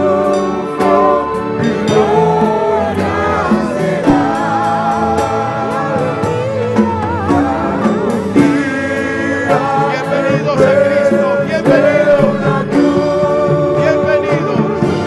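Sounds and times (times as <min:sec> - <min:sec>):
instrumental accompaniment: 0:00.0 - 0:15.0
voices singing a hymn: 0:00.0 - 0:15.0.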